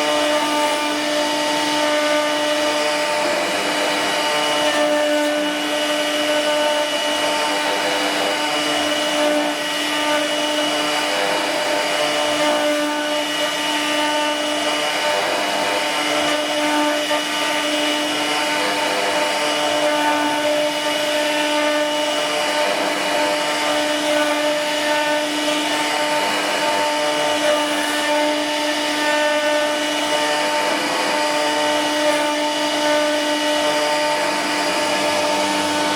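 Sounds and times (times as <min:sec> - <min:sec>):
cnc machine motor whine: 0:00.0 - 0:35.9
tool cutting hiss: 0:00.0 - 0:35.9.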